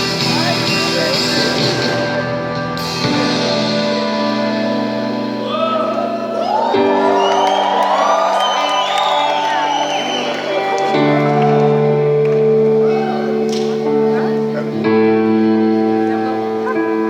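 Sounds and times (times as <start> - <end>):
worship band holding chords: 0.0 - 17.0.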